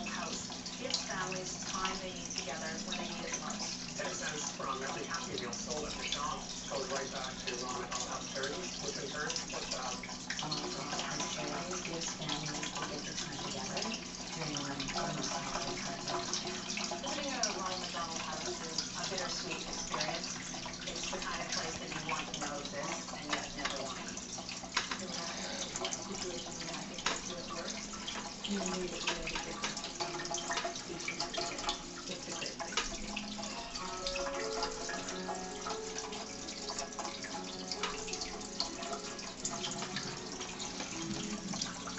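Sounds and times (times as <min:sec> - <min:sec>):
faint television voice: 0:00.0 - 0:24.2, 0:24.9 - 0:35.3
aquarium filter water splashing: 0:00.0 - 0:41.9.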